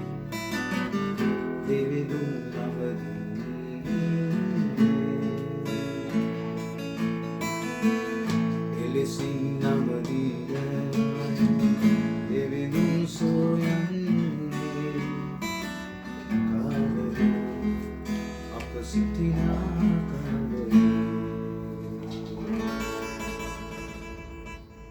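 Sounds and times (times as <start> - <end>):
acoustic guitar music: 0.0 - 24.9.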